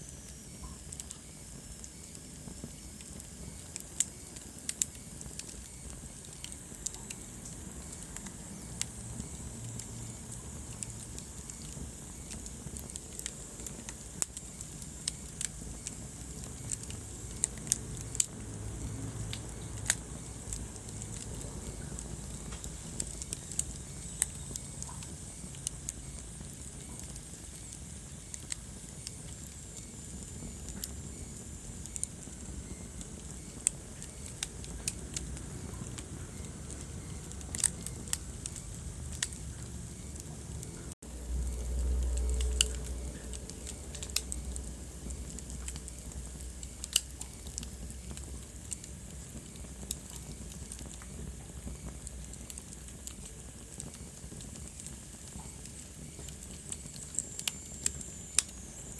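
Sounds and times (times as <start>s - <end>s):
low rumble and hiss of flames: 0.0s - 58.9s
wood fire crackling and popping: 0.0s - 58.9s.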